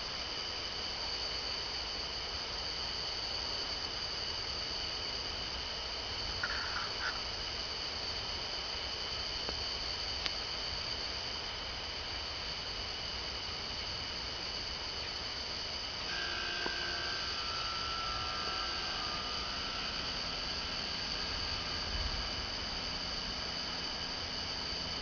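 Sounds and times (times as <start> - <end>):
insect chorus trilling: 0.0 - 25.0.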